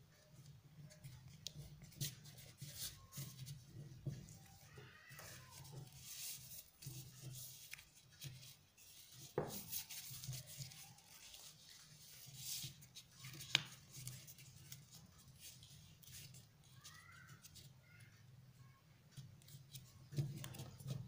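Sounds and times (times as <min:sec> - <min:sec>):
paper rustling and crinkling: 0:00.8 - 0:17.7, 0:19.4 - 0:21.0.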